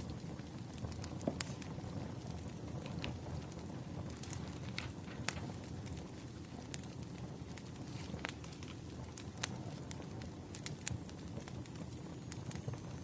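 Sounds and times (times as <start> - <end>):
fire crackles and pops: 0.0 - 13.0
wood fire rushing: 0.0 - 13.0.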